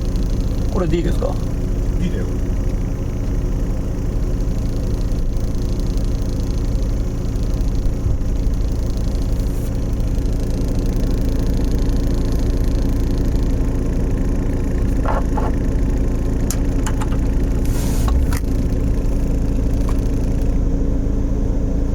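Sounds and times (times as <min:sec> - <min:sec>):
car idling low hum and buzz: 0:00.0 - 0:21.9.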